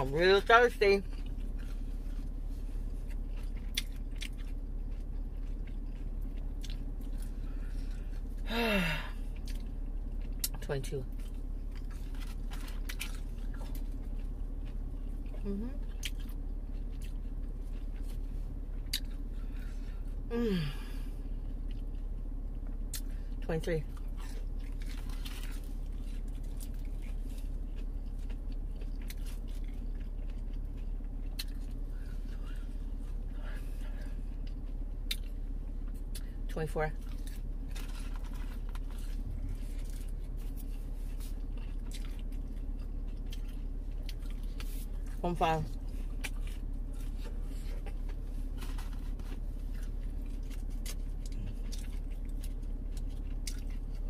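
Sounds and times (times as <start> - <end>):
chewing food: 0.0 - 8.5, 9.1 - 20.2, 20.8 - 54.0
steady low hum: 0.0 - 54.0.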